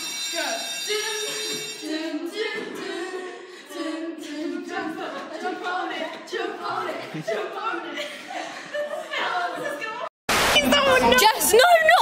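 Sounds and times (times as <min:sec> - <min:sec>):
girls singing unaccompanied: 0:00.4 - 0:10.1.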